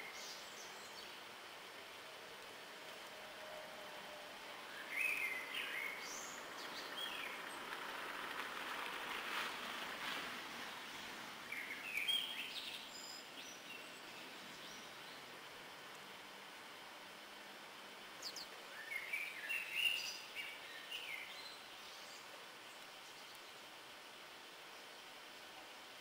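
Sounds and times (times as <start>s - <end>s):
songbird chirping: 0.0s - 3.2s, 3.8s - 9.2s, 10.6s - 16.4s, 18.0s - 26.0s
outdoor hiss: 0.0s - 26.0s.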